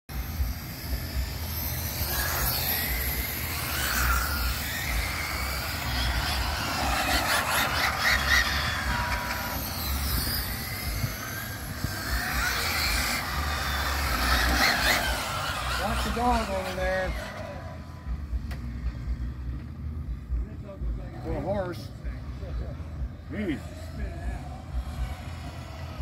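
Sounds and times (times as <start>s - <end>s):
rc car motors whining: 0.1s - 26.0s.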